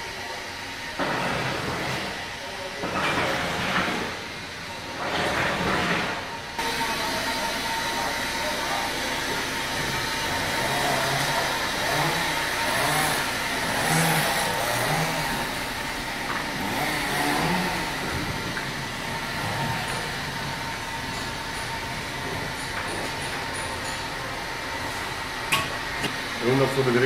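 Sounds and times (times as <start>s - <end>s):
machinery running: 0.0s - 27.0s.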